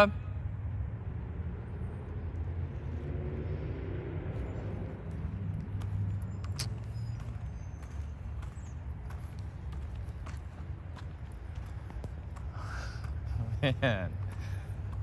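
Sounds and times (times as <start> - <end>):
faint engine hum: 0.0 - 15.0
low outdoor rumble: 0.0 - 15.0.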